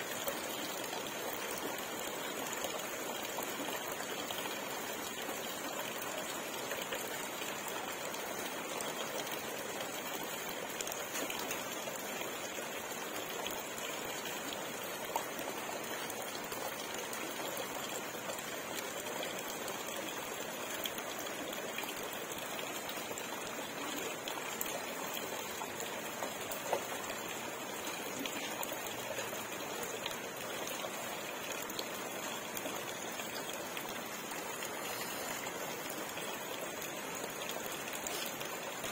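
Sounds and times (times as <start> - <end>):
pond water trickling: 0.0 - 38.9.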